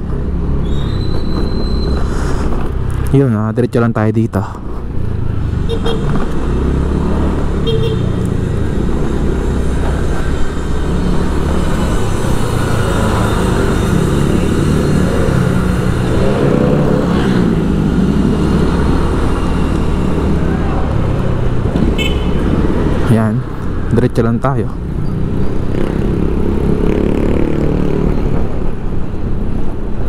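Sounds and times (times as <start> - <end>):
road and traffic noise: 0.0 - 30.0.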